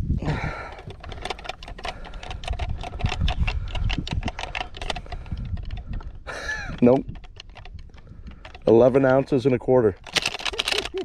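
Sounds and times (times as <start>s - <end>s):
fishing gear clicking and rattling: 0.2s - 11.0s.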